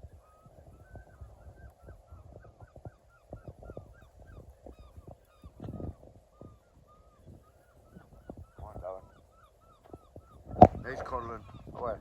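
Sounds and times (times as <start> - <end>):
birds honking: 0.0 - 12.0.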